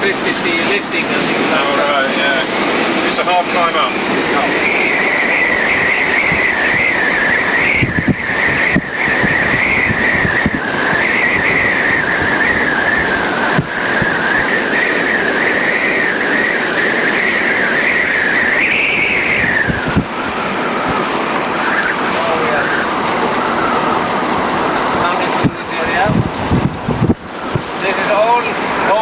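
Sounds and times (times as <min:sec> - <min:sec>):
high whine wavering in pitch: 0:00.0 - 0:29.0
road and wind noise: 0:00.0 - 0:29.0
low bumps: 0:01.1 - 0:29.0.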